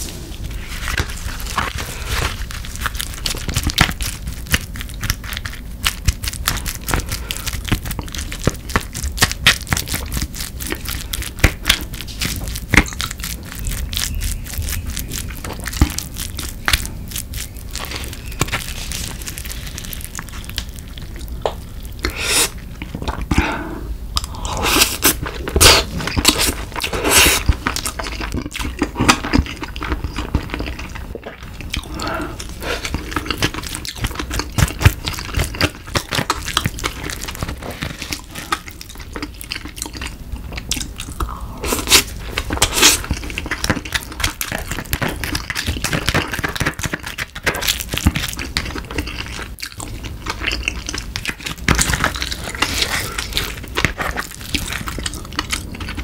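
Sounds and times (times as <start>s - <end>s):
chewing: 0.3s - 56.0s.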